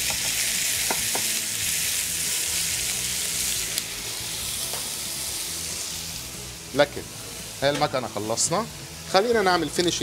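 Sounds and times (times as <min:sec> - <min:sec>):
chicken sizzling in a frying pan: 0:00.0 - 0:10.0.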